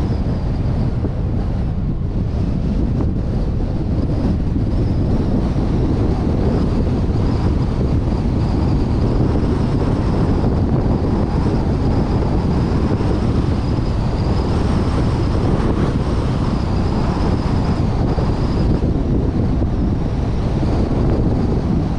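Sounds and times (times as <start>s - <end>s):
car road noise: 0.0s - 21.9s
faint high wavering whine: 0.0s - 21.9s
wind buffeting microphone: 0.0s - 21.9s
wind rush: 0.0s - 21.9s.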